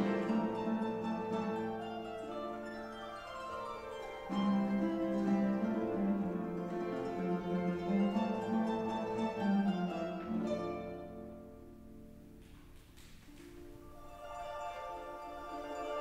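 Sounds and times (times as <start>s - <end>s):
harp playing plucked notes: 0.0s - 16.0s.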